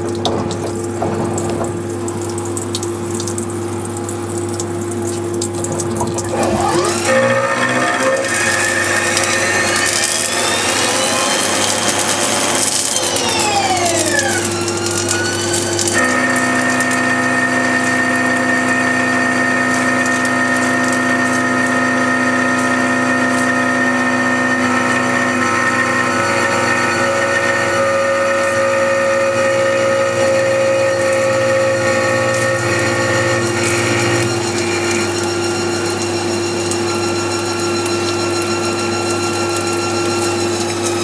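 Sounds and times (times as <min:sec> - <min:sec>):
lathe spindle whine: 0:06.2 - 0:41.0.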